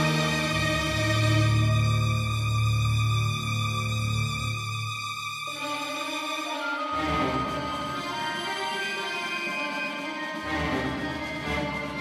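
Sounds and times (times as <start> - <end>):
instrumental music with held notes: 0.0 - 12.0.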